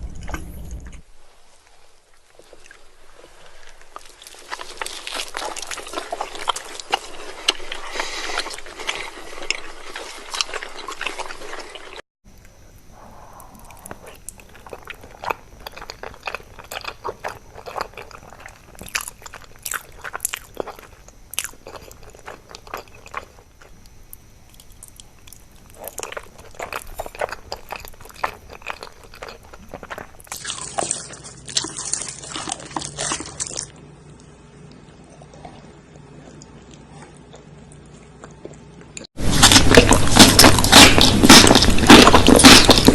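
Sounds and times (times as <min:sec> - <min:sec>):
crunchy chewing: 0:02.2 - 0:42.9.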